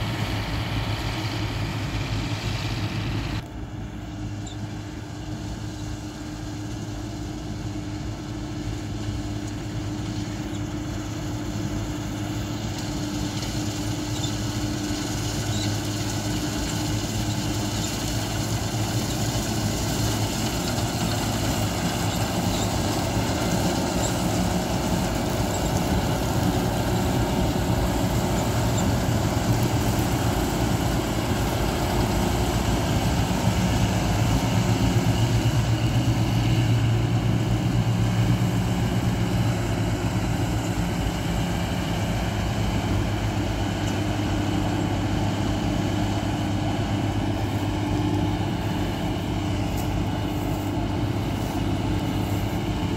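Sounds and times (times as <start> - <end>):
combine harvester engine running: 0.0 - 52.9.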